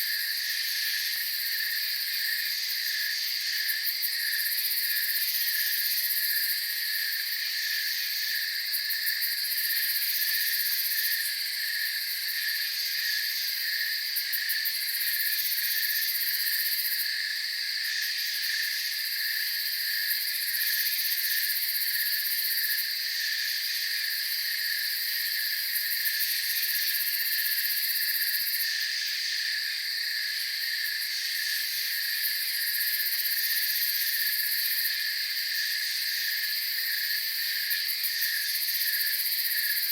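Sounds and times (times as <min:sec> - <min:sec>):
insects steady high buzz: 0:00.0 - 0:39.9
shrill high insect layer: 0:00.0 - 0:39.9.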